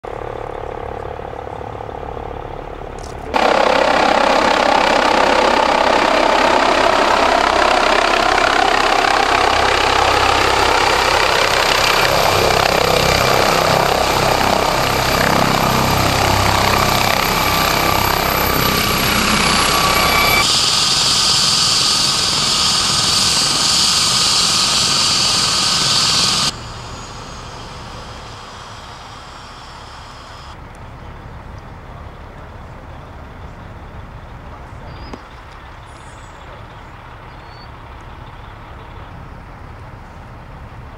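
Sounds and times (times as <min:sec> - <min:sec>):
helicopter turbine whine and rotors: 0:00.1 - 0:34.8.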